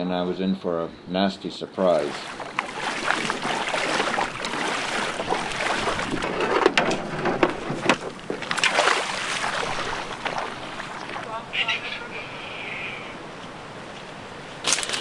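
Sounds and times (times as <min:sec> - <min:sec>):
wind and water rushing: 0:00.0 - 0:15.0.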